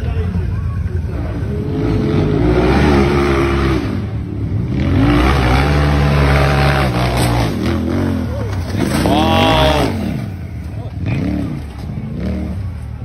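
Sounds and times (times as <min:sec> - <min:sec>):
buggy engine revving hard: 0:01.1 - 0:12.8.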